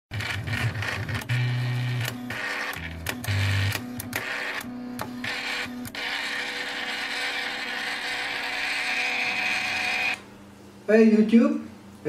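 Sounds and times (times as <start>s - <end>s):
printer carriage motor whirring: 0.1s - 10.2s.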